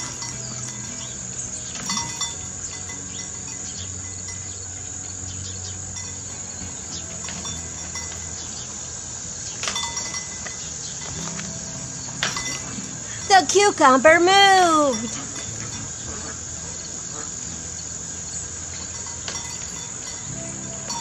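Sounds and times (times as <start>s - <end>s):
insects calling: 0.0s - 21.0s.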